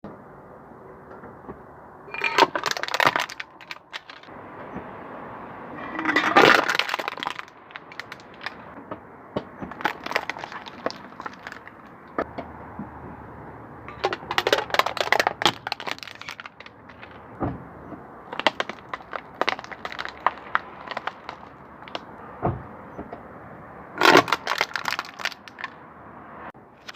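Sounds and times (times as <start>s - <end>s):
objects crackling under car tyres: 1.1s - 13.2s, 13.8s - 26.9s.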